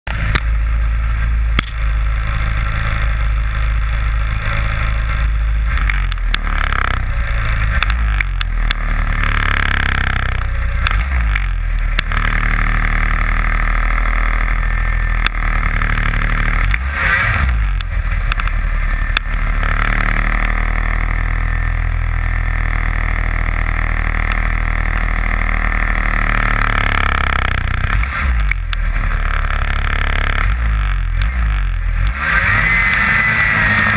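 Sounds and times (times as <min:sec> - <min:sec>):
snowmobile engine running: 0:00.1 - 0:33.9.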